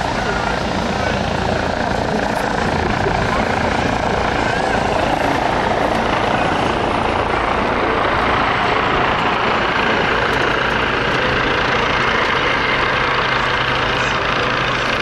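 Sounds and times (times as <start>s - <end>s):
helicopter rotor and engines: 0.0s - 15.0s.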